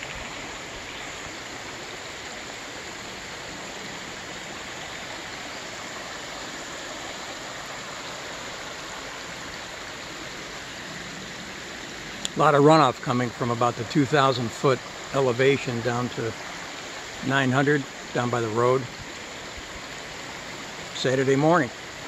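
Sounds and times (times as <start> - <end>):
creek water running over stones: 0.0 - 22.0.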